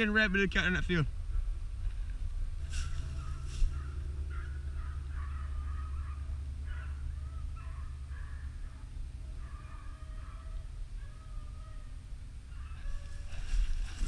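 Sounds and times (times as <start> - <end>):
wind rumble on microphone: 1.0 - 14.0
hunting dogs baying: 2.6 - 14.0.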